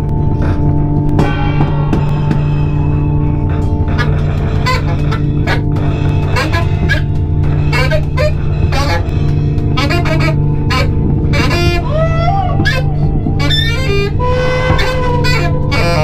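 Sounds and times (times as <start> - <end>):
low layered drone: 0.0 - 16.0
sharp clicks and crashes: 0.0 - 16.0.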